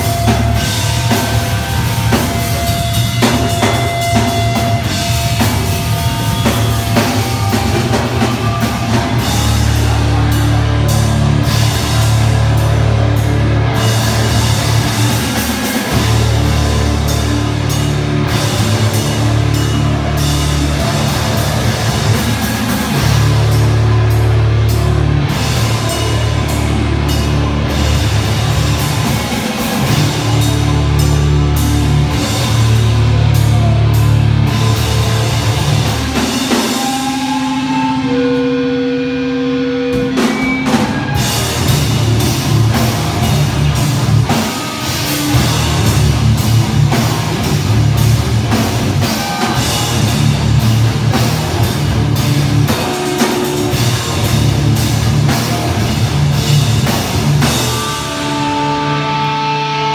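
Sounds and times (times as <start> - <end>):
heavy rock band playing: 0.0 - 59.9.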